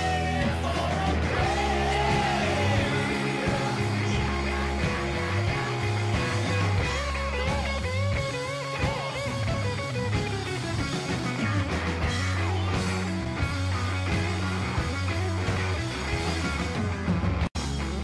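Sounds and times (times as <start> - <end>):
rock music with guitar and bass: 0.0 - 18.0.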